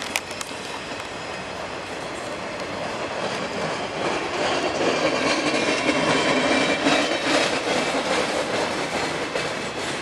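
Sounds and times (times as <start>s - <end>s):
diesel locomotive: 0.0s - 10.0s
freight train rumble: 0.0s - 10.0s
train wheel clatter: 0.0s - 10.0s.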